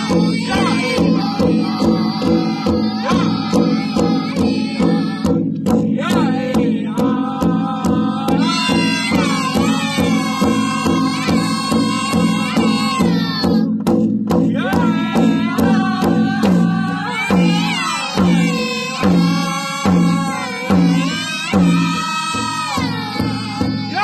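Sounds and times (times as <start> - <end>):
group singing in unison: 0.0 - 13.8, 14.4 - 24.0
steady drum beat: 0.0 - 24.0.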